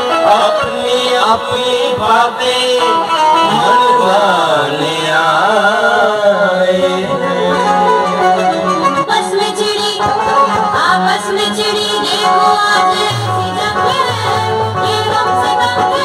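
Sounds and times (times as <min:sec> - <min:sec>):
ornamented melody over drone: 0:00.0 - 0:16.0.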